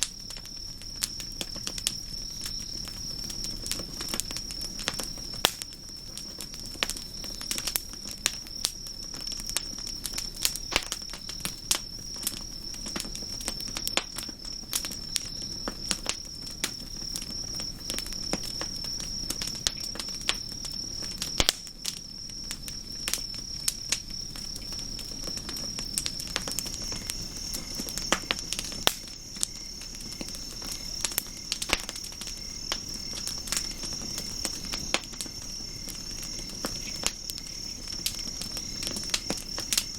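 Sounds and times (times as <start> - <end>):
campfire crackling and popping: 0.0 - 39.9
high cricket trill: 0.0 - 39.9
lower insect trill: 0.0 - 39.9.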